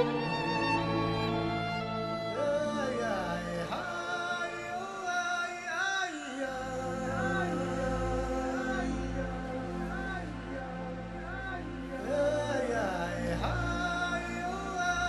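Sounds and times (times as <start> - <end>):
person singing slow melody: 0.0 - 15.0.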